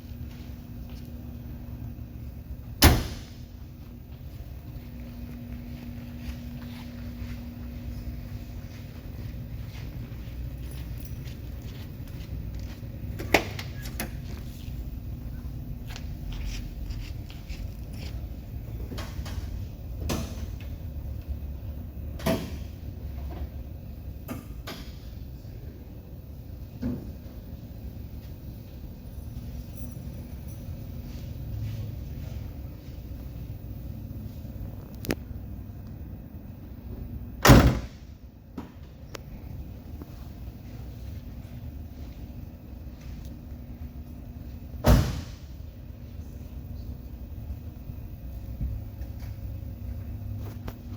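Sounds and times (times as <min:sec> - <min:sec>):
low steady rumble: 0:00.0 - 0:50.9.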